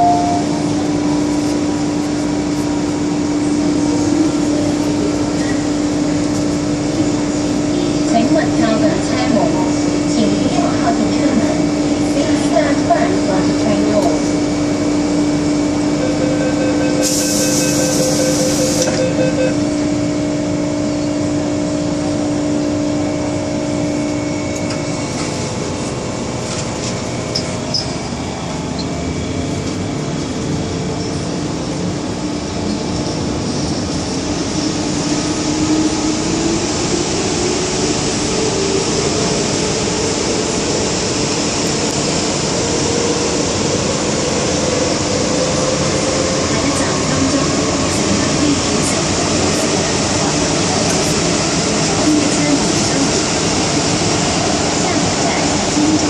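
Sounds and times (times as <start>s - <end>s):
train hum: 0.0s - 56.0s.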